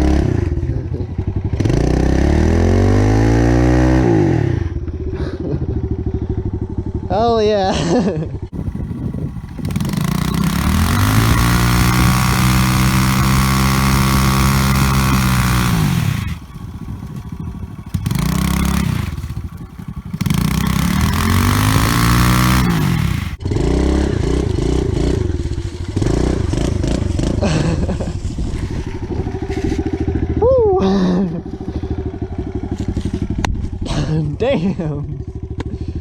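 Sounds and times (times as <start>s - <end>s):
pit bike engine revving: 0.0s - 7.1s, 8.0s - 33.8s.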